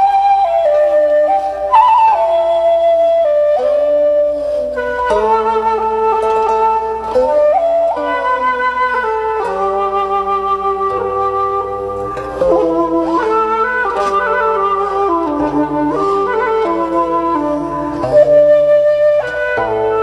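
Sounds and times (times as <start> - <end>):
slow flute melody: 0.0 - 20.0
sustained accompanying notes: 0.0 - 20.0.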